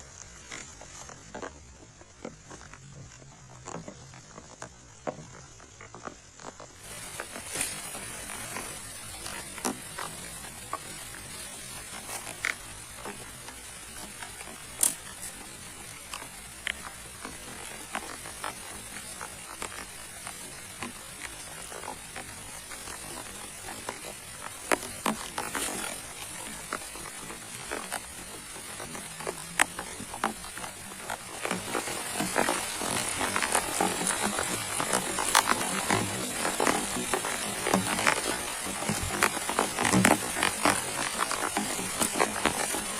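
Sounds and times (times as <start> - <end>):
steady rain in forest: 0.0 - 42.9.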